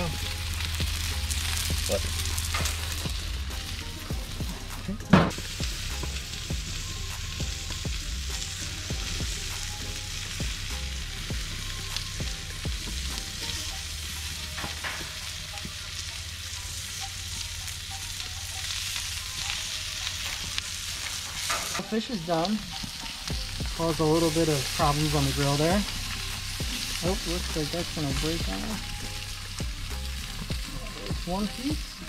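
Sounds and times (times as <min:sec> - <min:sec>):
food sizzling on a grill: 0:00.0 - 0:32.0.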